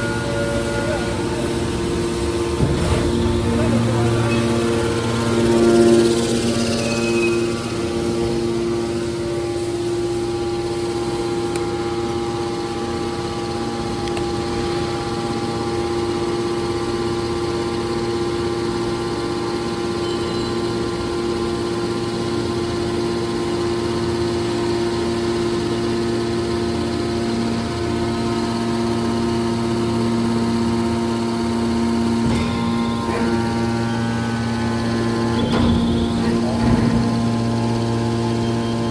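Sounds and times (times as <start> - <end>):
hydraulic pump motor humming: 0.0 - 38.9.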